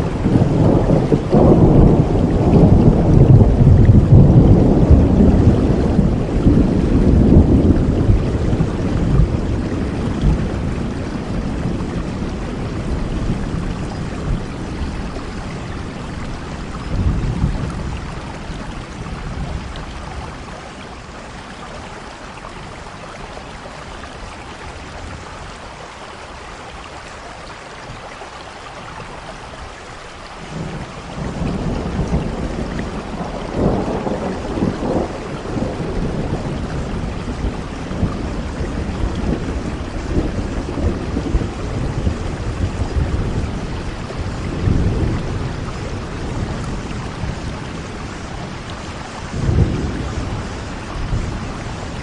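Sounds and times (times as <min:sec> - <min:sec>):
rolling thunder: 0:00.0 - 0:21.2, 0:30.4 - 0:52.0
heavy rain falling: 0:00.0 - 0:52.0.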